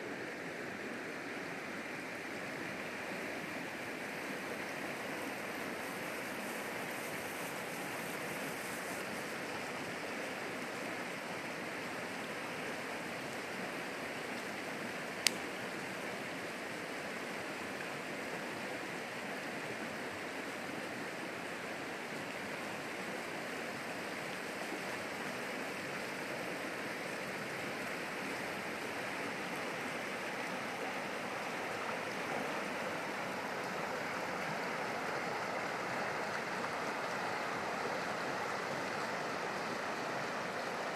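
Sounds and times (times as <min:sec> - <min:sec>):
creek rushing over rocks: 0:00.1 - 0:40.9.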